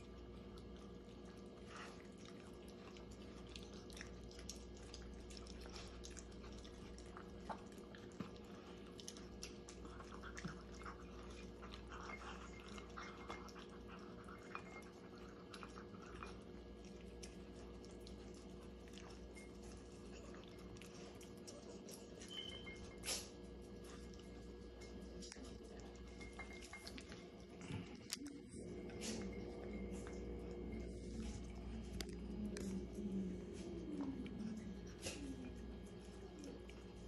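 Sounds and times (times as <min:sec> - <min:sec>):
dogs chewing: 0:00.0 - 0:37.0
steady low hum: 0:00.0 - 0:37.0.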